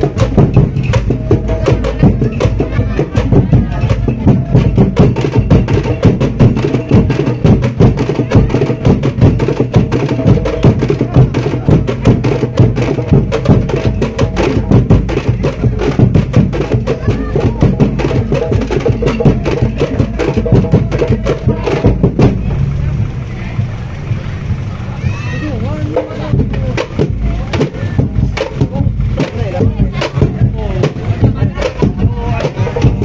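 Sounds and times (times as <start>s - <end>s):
snare and bass drums beating: 0.0s - 24.7s, 25.3s - 33.0s.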